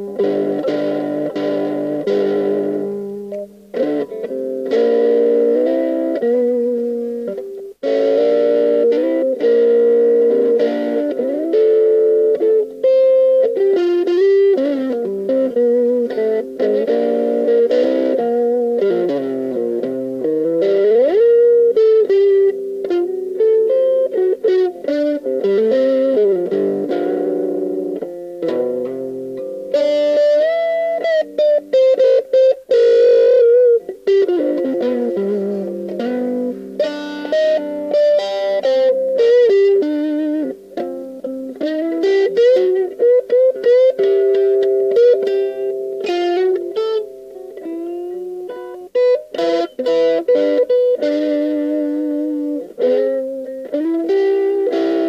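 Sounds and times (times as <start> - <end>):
overdriven electric guitar riffs: 0.0 - 55.0.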